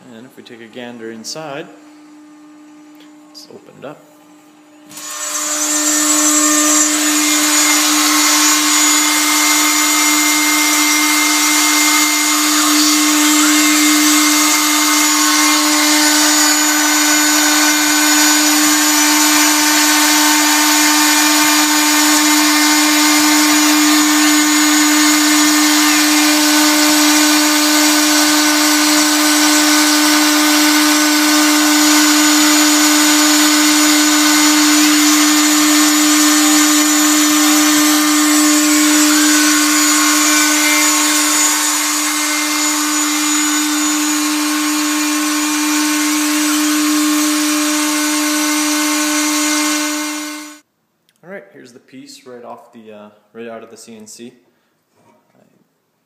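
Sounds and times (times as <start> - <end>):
milling spindle motor whine: 4.8 - 50.6.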